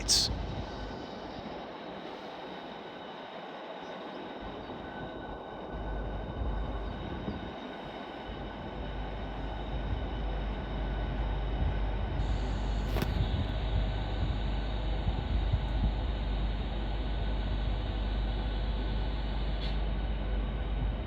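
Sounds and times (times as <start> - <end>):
electric train rumble: 0.0 - 21.0.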